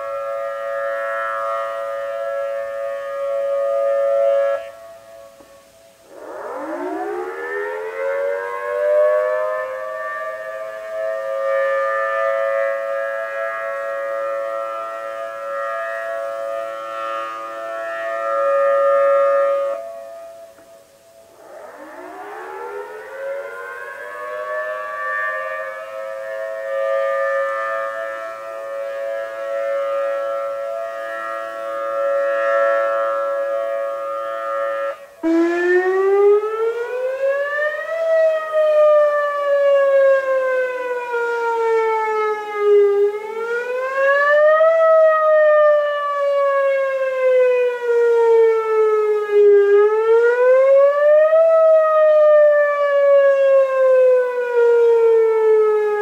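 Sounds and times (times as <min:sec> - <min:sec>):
outdoor warning siren wailing: 0:00.0 - 0:56.0.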